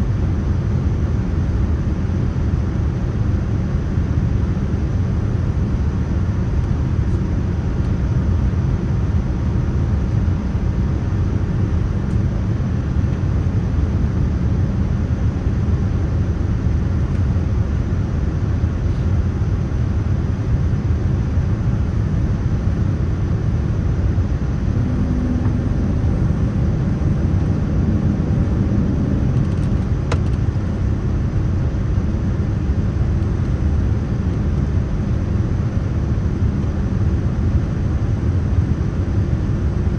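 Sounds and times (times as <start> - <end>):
jet airliner rumble: 0.0 - 39.9.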